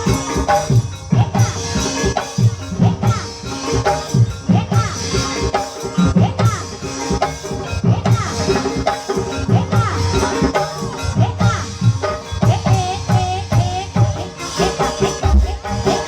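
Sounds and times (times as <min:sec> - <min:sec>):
drums beating repeating pattern: 0:00.0 - 0:16.0
sustained pitched percussion: 0:00.0 - 0:16.0.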